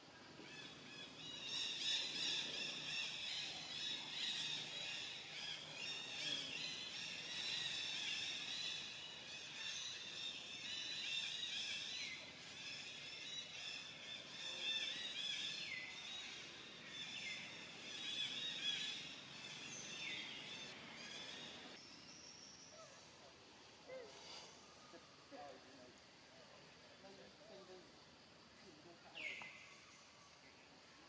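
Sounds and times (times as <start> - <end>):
insects calling: 0.0 - 31.0.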